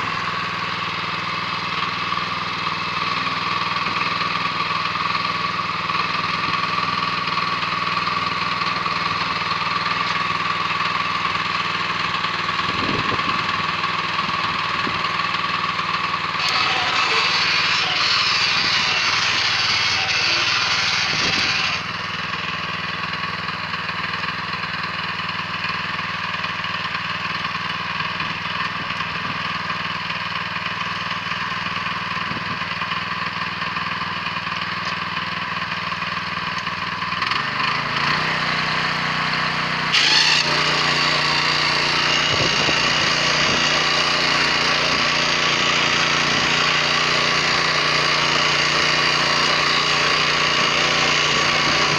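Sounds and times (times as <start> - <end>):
tractor engine tilling: 0.0 - 51.9.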